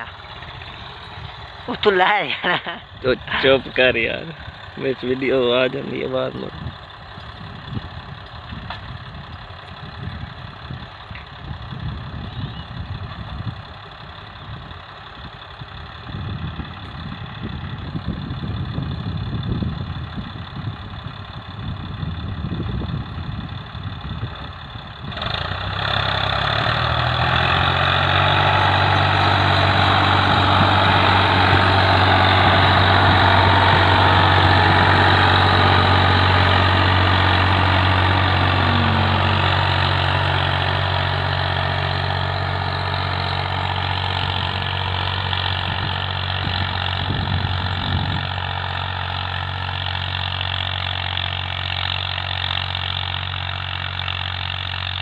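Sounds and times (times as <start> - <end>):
tractor engine drone: 0.0 - 55.0.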